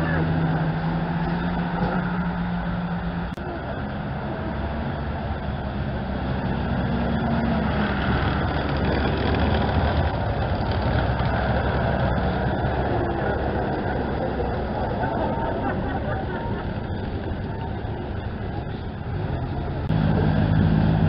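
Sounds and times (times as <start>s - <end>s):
military vehicle engine running: 0.0s - 21.0s.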